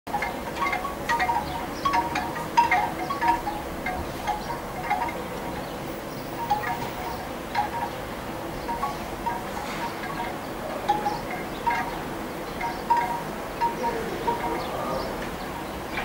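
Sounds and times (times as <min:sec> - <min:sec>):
faint wind hiss: 0:00.1 - 0:16.0
wind chimes ringing: 0:00.1 - 0:16.0.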